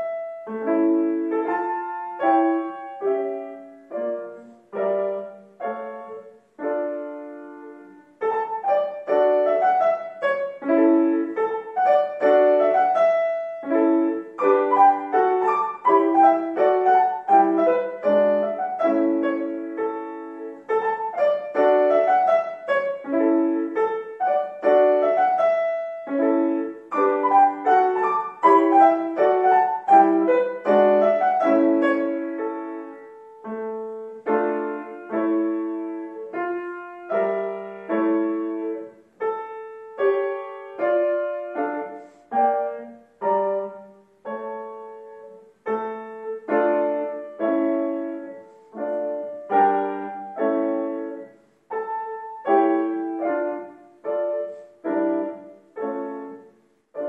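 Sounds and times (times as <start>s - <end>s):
solo grand piano: 0.0s - 57.0s.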